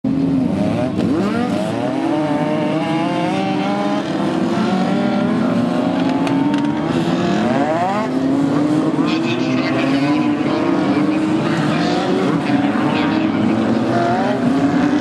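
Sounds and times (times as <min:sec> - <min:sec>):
race car engine accelerating: 0:00.2 - 0:15.0.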